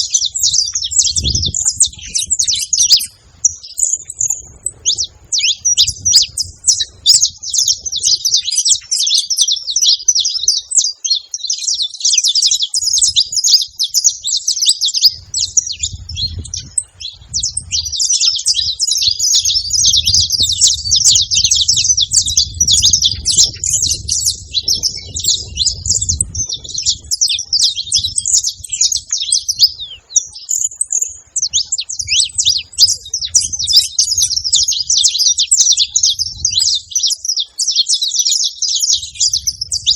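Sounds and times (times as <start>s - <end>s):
finch singing chirps and trills: 0.0s - 39.9s.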